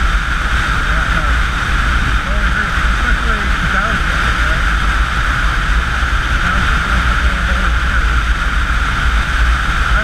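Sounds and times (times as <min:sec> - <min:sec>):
motorcycle engine droning: 0:00.0 - 0:10.0
wind rush over microphone: 0:00.0 - 0:10.0.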